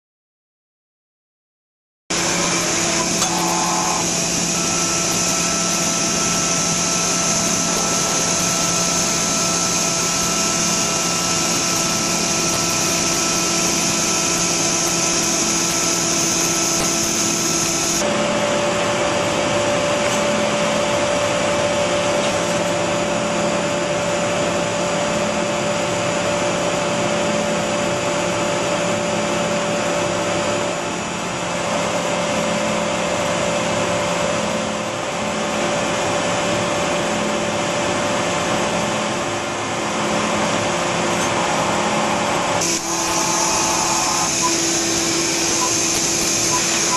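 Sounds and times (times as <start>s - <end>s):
milling machine whirring: 2.1s - 46.9s.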